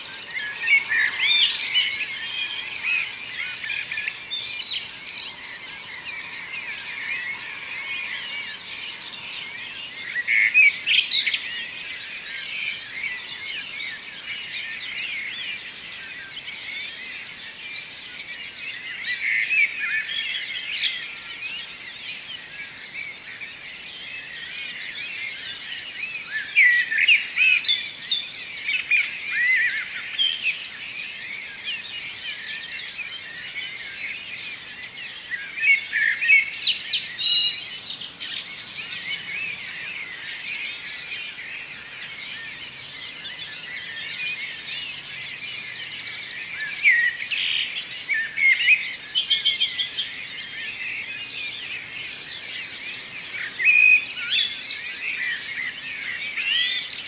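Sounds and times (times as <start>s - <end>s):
birds chirping and trilling: 0.0s - 16.7s, 24.3s - 57.0s.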